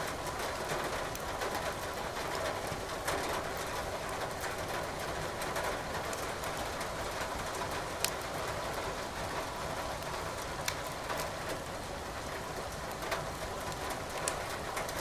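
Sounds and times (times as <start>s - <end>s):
rain falling: 0.0s - 15.0s
wood fire crackling: 0.1s - 1.4s, 2.6s - 15.0s.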